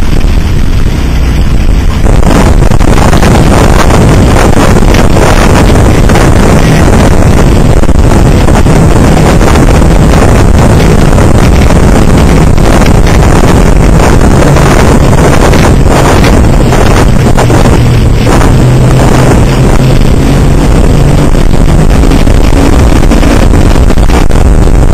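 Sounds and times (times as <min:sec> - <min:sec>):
wind buffeting the microphone: 0:00.0 - 0:24.9.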